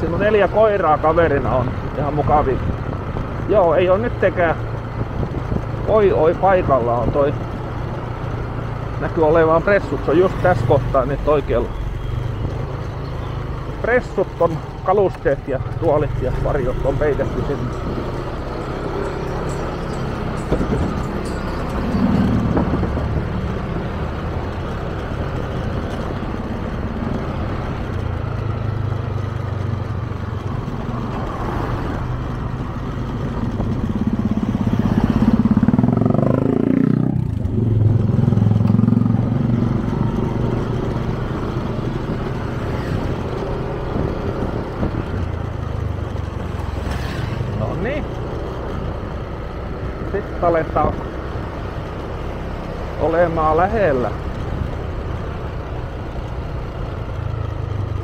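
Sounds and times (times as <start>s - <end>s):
road and wind noise: 0.0s - 58.0s
scooter engine running: 3.0s - 58.0s.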